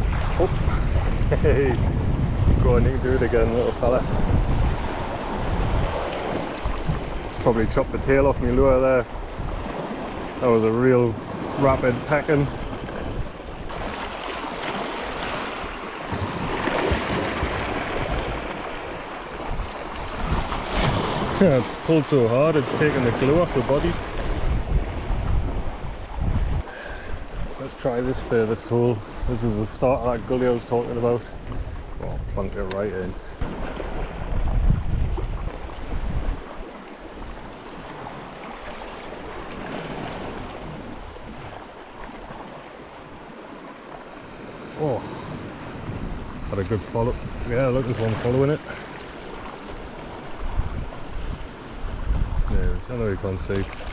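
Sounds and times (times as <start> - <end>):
sea water washing against rocks: 0.0 - 28.0, 33.3 - 53.9.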